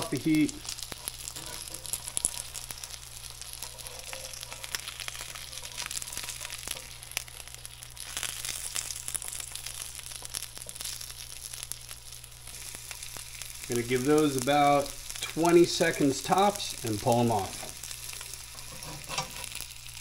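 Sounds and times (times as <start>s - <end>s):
fish fillets sizzling in oil: 0.0s - 20.0s.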